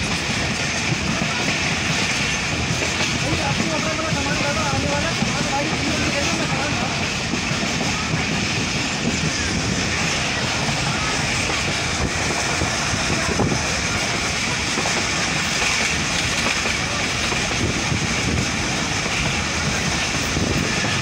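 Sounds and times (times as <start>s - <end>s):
train running at speed: 0.0s - 21.0s.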